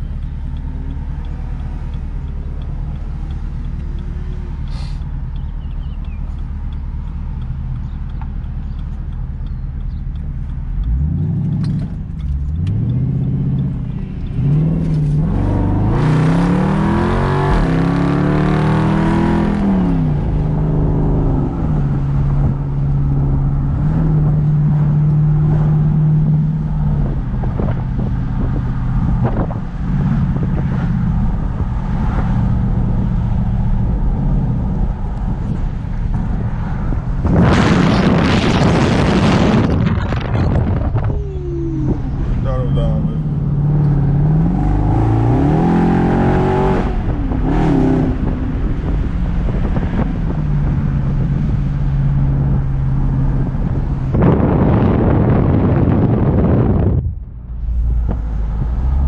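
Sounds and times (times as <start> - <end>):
car exhaust droning and accelerating: 0.0 - 59.0.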